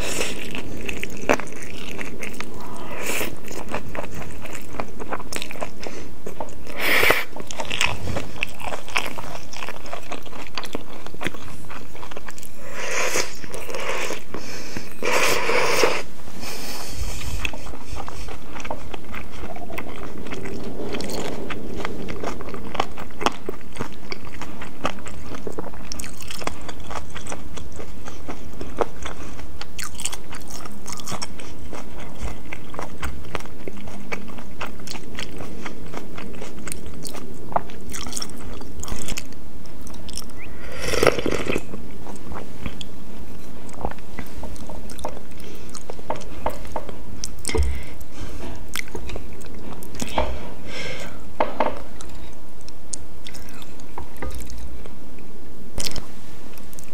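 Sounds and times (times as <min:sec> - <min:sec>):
close-up chewing of food: 0:00.0 - 0:51.2, 0:51.8 - 0:56.9.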